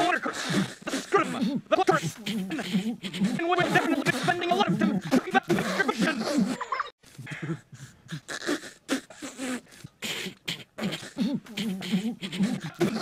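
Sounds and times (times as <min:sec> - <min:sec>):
cartoon boys snickering: 0:00.0 - 0:09.6, 0:10.2 - 0:13.0.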